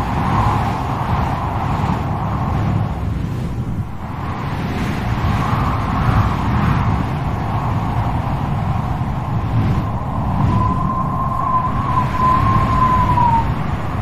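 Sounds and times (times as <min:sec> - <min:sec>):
strong gusty wind: 0:00.0 - 0:14.0.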